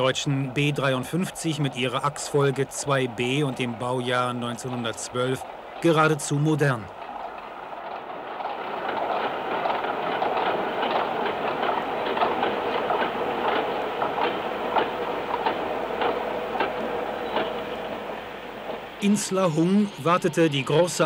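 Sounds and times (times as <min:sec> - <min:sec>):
faint steady whine: 0:00.0 - 0:21.0
train running on track: 0:00.0 - 0:21.0
wheels clattering over rail joints: 0:00.0 - 0:21.0.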